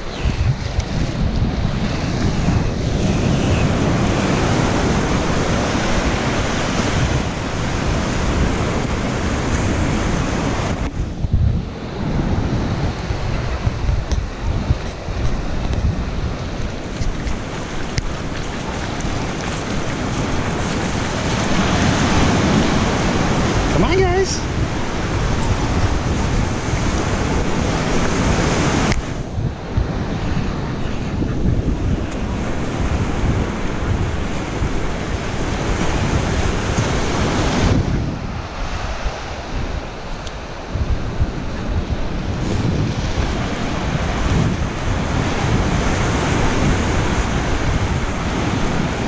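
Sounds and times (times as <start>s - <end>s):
surf washing over sand: 0.0s - 49.0s
wind buffeting microphone: 0.0s - 49.0s.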